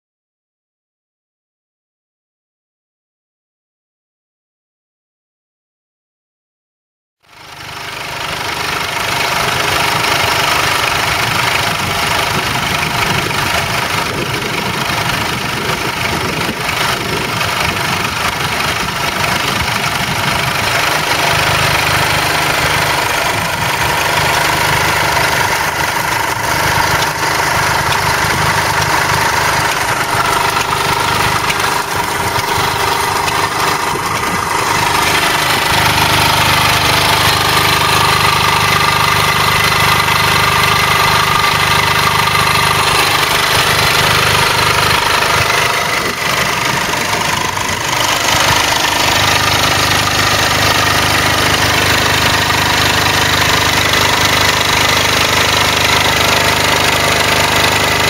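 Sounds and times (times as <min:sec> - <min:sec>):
small engine running steadily: 0:07.2 - 0:58.0.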